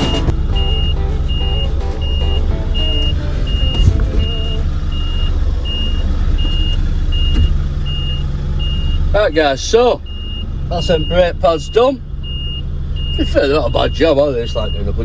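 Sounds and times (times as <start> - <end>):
diesel truck engine running: 0.0 - 15.0
truck reversing alarm beeping: 0.0 - 15.0.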